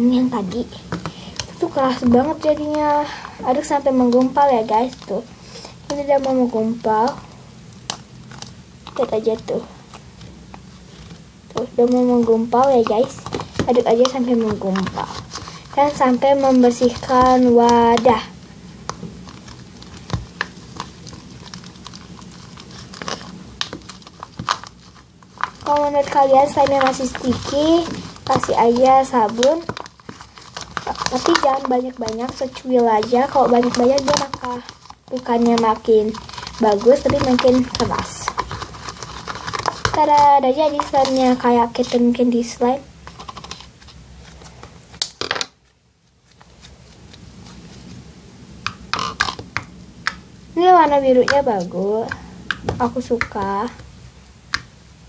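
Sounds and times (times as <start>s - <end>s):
slime squishing: 0.0s - 45.6s, 48.6s - 53.9s.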